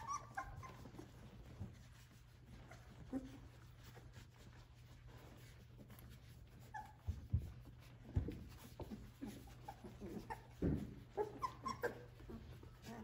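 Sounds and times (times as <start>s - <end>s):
puppies whimpering and squeaking: 0.0s - 13.0s.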